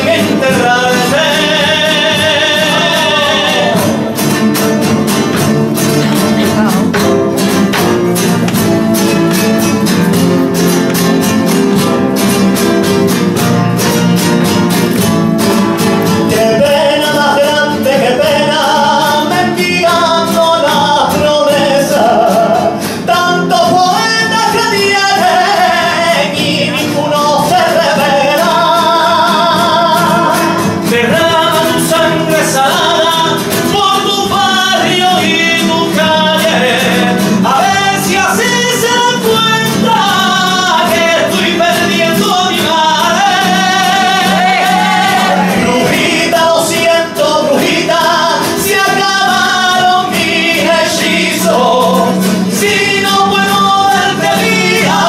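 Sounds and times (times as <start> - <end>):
men singing: 0.0 - 8.3, 15.5 - 55.0
strummed acoustic guitars: 0.0 - 55.0.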